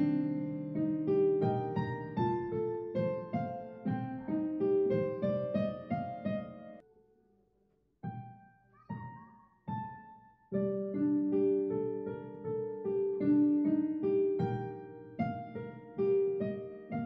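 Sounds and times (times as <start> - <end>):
solo piano melody: 0.0 - 7.0, 8.0 - 17.0.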